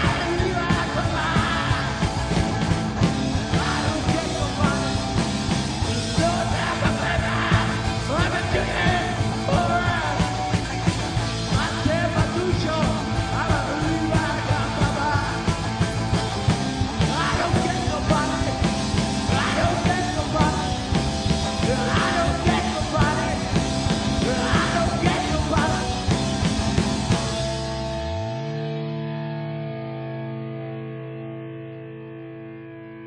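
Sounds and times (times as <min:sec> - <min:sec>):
yelled vocals: 0:00.0 - 0:27.6
rock band playing: 0:00.0 - 0:33.0.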